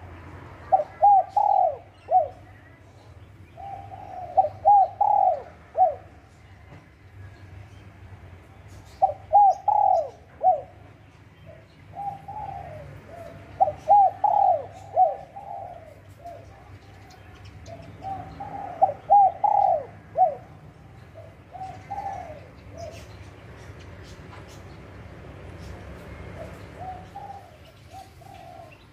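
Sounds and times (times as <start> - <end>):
dove cooing: 0.6 - 2.8, 3.6 - 6.7, 8.8 - 24.7, 25.3 - 28.9.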